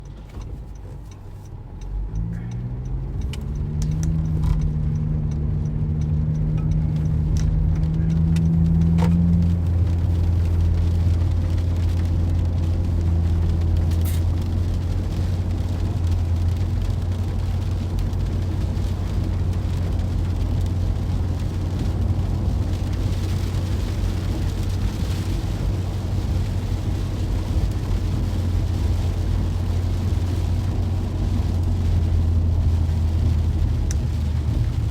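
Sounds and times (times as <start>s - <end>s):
car engine: 0.0s - 34.9s
road noise: 0.0s - 34.9s.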